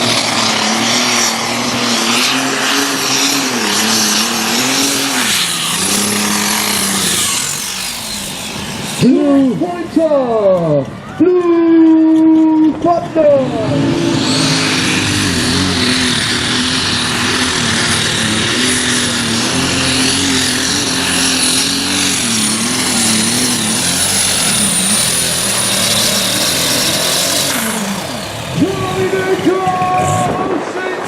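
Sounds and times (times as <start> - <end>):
high whine: 0.0 - 31.0
tractor engine running flat out: 0.0 - 31.0.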